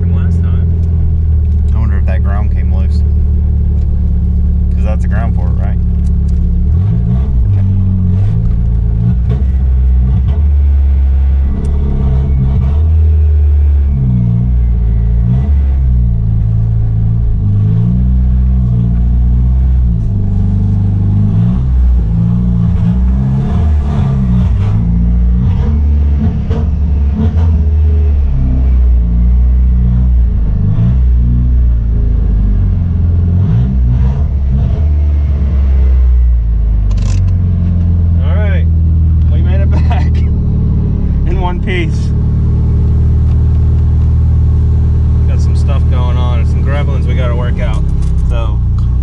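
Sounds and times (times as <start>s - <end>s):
car engine revving and stumbling: 0.0s - 49.0s.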